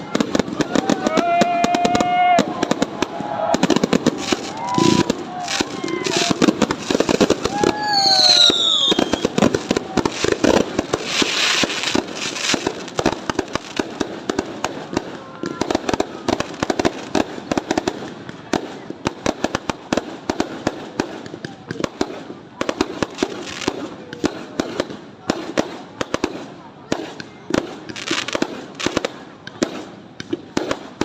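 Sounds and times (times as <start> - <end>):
fireworks bangs and crackling pops: 0.0 - 31.0.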